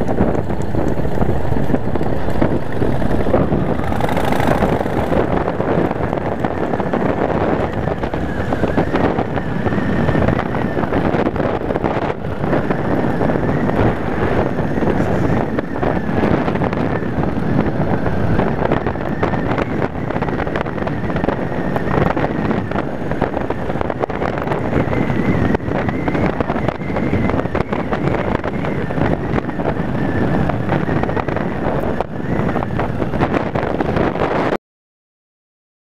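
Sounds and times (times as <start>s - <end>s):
motorcycle engine running: 0.0s - 34.4s
wind buffeting microphone: 0.0s - 34.6s.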